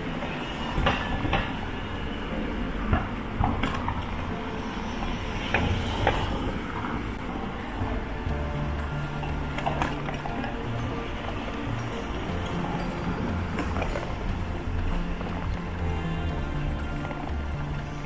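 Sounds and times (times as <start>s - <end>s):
bicycle rolling along street: 0.0s - 18.0s.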